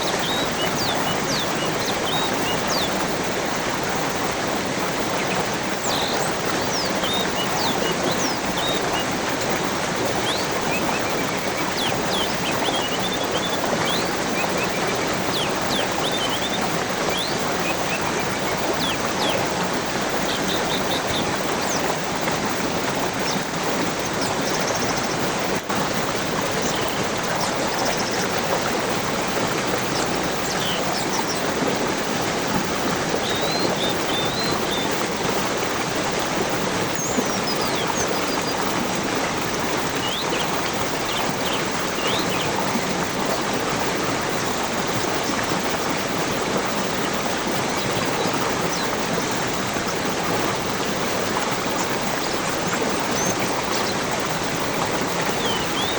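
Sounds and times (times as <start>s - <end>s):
small birds chirping: 0.0s - 55.9s
stream of flowing water: 0.0s - 55.9s.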